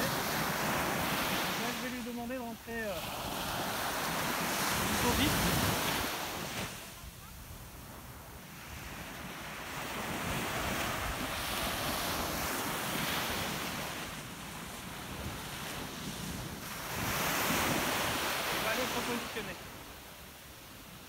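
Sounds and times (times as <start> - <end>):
sea waves breaking on sand: 0.0 - 21.0.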